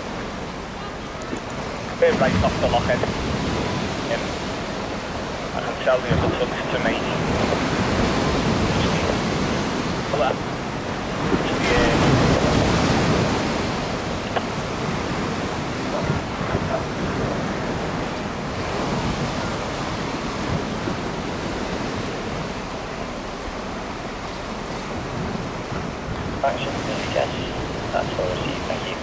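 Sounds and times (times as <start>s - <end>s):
choppy river water: 0.0s - 29.0s
wind on microphone: 0.0s - 29.0s.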